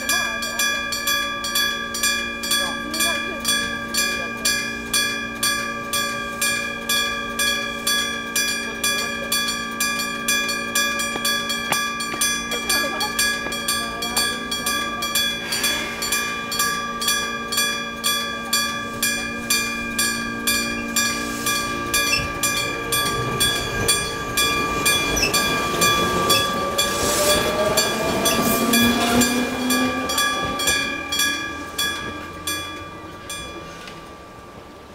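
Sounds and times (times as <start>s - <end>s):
level crossing bell ringing: 0.0s - 34.6s
train passing with whine: 0.0s - 34.9s.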